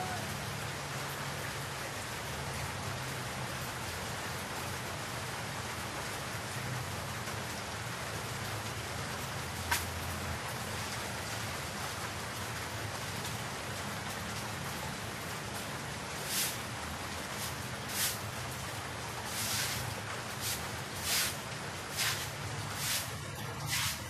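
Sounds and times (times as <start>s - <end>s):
rain on leaves and wet ground: 0.0s - 24.0s.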